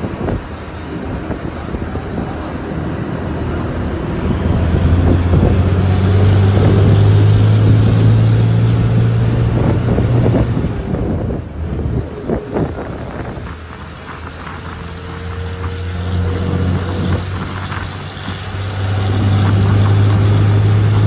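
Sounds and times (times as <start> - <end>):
car engine hum: 0.0 - 21.0
tyre and wind noise: 0.0 - 21.0.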